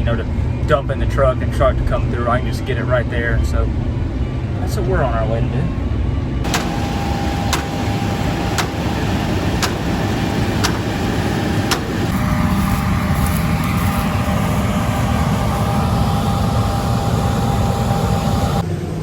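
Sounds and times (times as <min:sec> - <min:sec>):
vehicle engine and road noise: 0:03.4 - 0:18.7.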